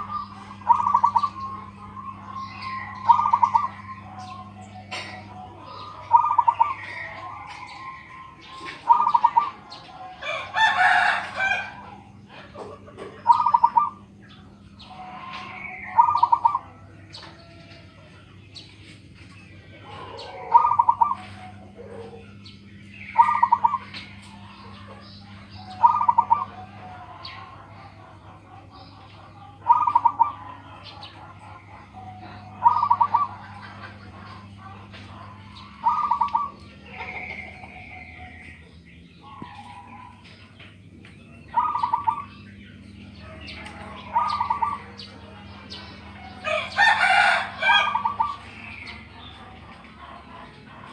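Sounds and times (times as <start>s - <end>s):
dove cooing: 0.0s - 50.9s
faint steady hum: 0.0s - 50.9s.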